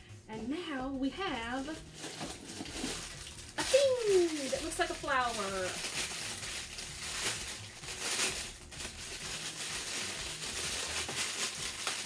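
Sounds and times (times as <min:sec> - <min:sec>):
plastic wrapping crinkling: 0:01.3 - 0:12.0.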